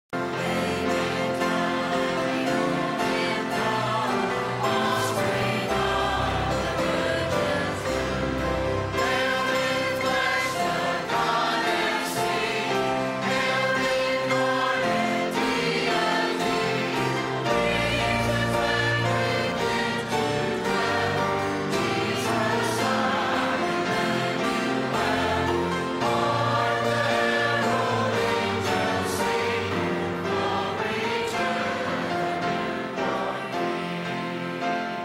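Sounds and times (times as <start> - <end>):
piano accompaniment: 0.1 - 35.0
church choir singing: 0.2 - 35.0.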